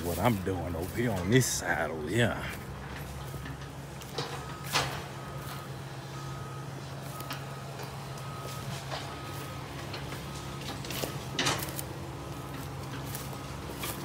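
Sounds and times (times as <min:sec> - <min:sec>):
backup alarm beeping: 0:00.0 - 0:14.0
excavator engine running: 0:00.0 - 0:14.0.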